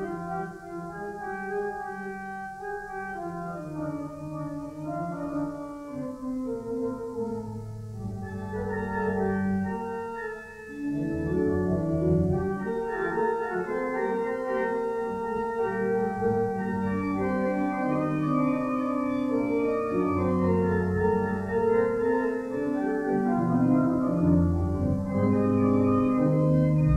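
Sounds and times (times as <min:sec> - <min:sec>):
organ playing a hymn: 0:00.0 - 0:26.9.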